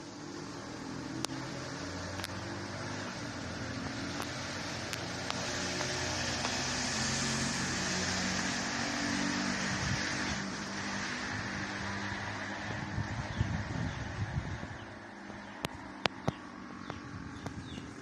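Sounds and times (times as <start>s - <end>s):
road vehicle rush and hum: 0.0s - 18.0s.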